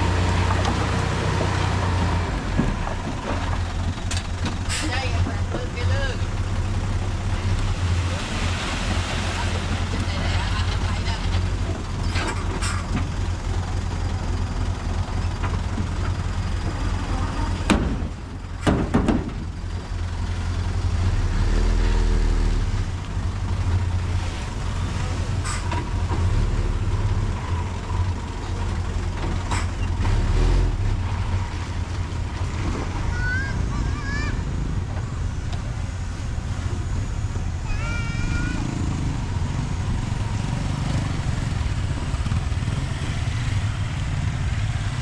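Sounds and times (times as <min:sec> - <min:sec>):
heavy diesel machinery rumbling: 0:00.0 - 0:45.0.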